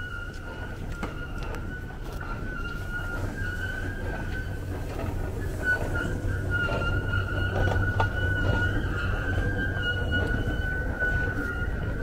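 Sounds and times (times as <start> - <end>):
escalator whine and hum: 0.0 - 12.0.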